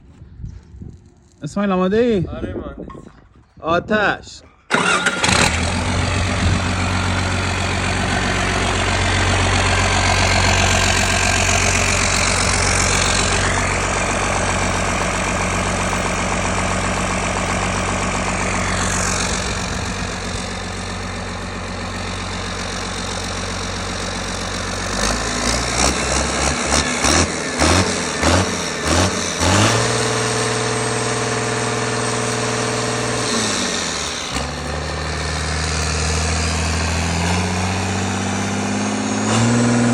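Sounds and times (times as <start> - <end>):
diesel engine revving: 4.7 - 39.9
diesel engine running: 4.7 - 39.9.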